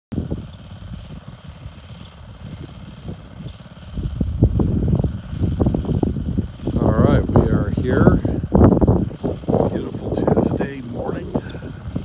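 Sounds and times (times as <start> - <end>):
wind buffeting microphone: 0.2 - 12.0.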